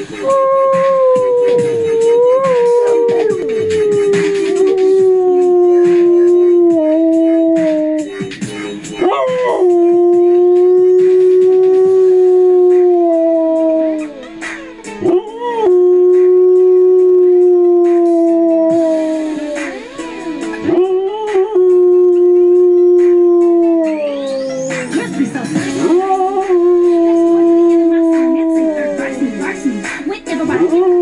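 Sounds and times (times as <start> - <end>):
dog howling: 0.0 - 8.3, 8.9 - 14.3, 15.0 - 25.0, 25.8 - 29.3, 30.6 - 31.0
techno music: 0.0 - 31.0.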